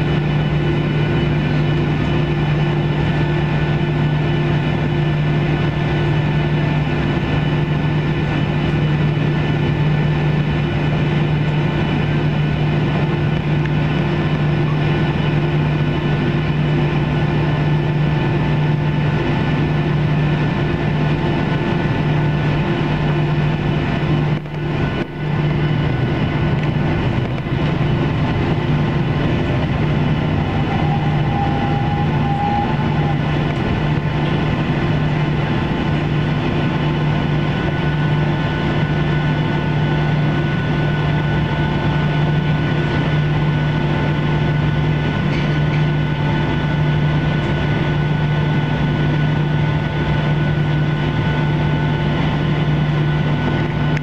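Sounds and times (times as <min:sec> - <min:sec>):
jet engines humming and whining: 0:00.0 - 0:54.0.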